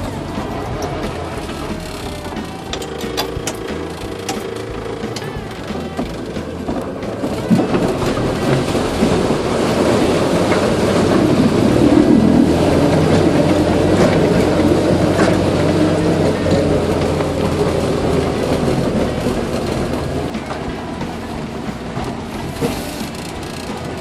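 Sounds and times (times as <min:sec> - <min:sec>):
vehicle engine pulling: 0:00.0 - 0:24.0
water rushing and splashing: 0:00.0 - 0:24.0.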